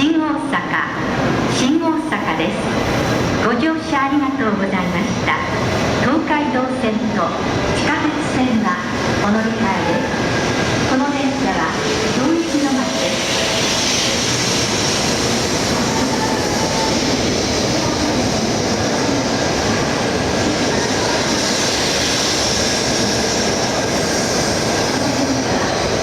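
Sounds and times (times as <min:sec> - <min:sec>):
train wheels and running gear: 0:01.2 - 0:26.0.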